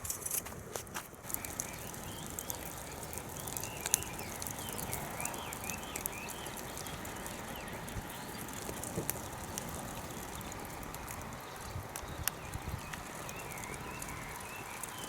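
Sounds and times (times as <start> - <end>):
wood fire crackling: 0.0 - 15.0
faint bird chirps: 1.3 - 8.7, 10.2 - 15.0.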